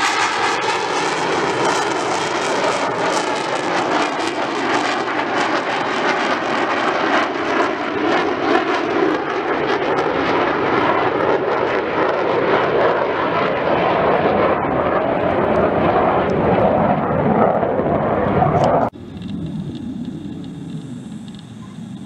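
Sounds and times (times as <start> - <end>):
distant jets: 0.0 - 22.0
jet engine flying past: 0.0 - 22.0.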